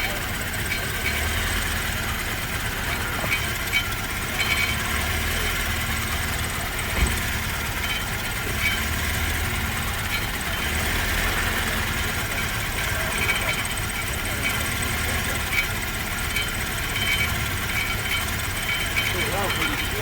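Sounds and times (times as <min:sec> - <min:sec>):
car engine idling rough: 0:00.0 - 0:20.0
engine knock: 0:00.0 - 0:20.0.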